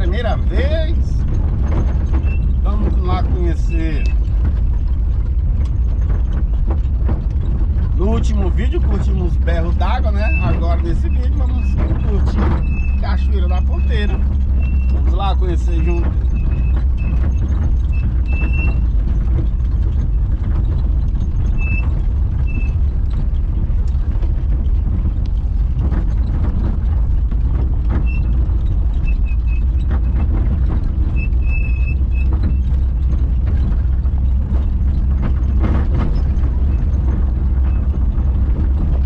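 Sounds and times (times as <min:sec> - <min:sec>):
vehicle driving rumble: 0:00.0 - 0:39.0.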